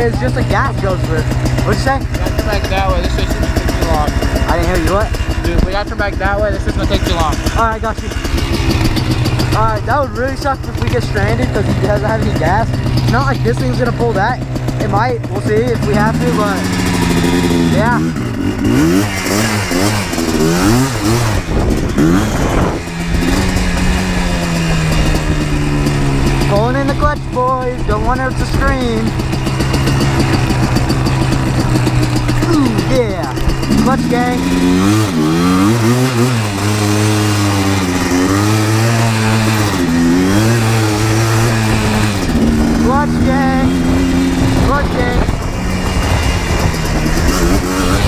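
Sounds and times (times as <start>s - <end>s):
two-stroke engine revving: 0.0s - 48.0s.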